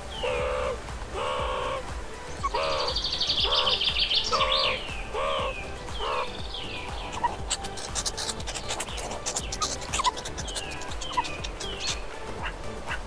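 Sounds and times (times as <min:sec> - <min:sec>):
buzzy high bird trill: 0:00.0 - 0:13.0
lower pitched bird calls: 0:00.0 - 0:13.0.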